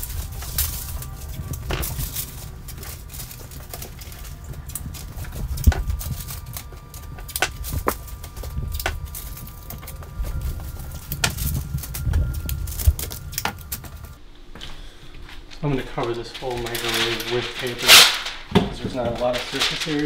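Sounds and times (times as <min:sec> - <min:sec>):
masking paper crinkling: 0:00.0 - 0:14.2, 0:15.4 - 0:20.0.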